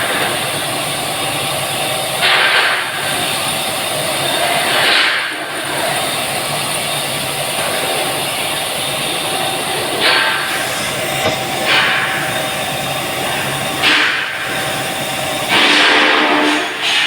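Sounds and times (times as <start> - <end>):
pipe mill machinery running: 0.0 - 17.0.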